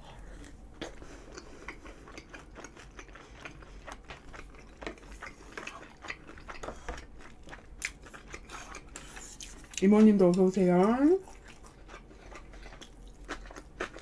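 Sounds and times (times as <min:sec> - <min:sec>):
person chewing food: 0:00.0 - 0:10.5, 0:11.2 - 0:14.0.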